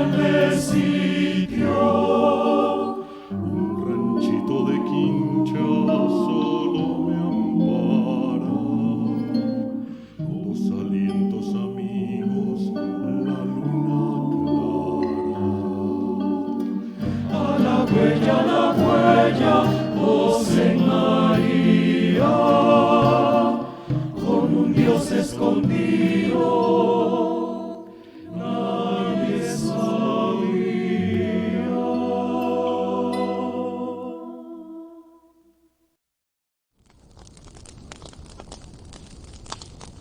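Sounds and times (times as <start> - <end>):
choir singing sustained chords: 0.0 - 35.4.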